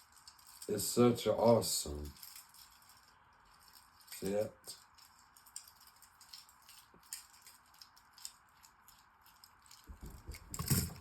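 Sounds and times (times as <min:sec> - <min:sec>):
plastic toy clicks and rattles: 0:00.0 - 0:11.0.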